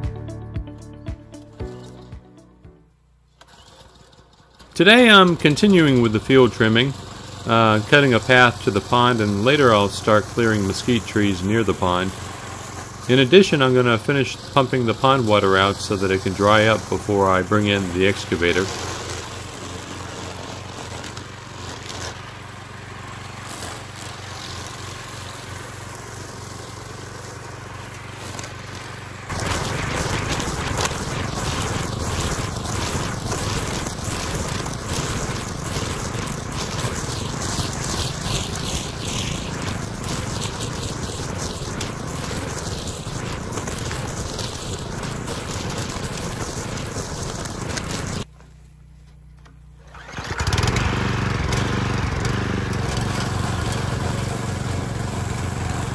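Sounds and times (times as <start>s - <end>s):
string trimmer engine cutting grass: 1.4s - 2.2s, 3.3s - 55.9s.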